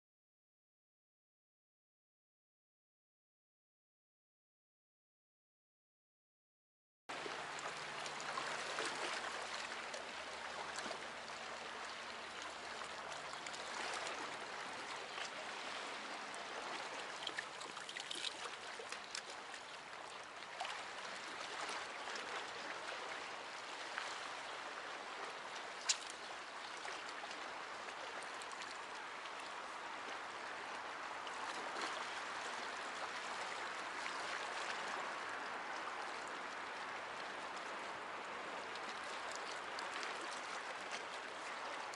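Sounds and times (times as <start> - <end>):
sea waves lapping against rocks: 7.1 - 41.9.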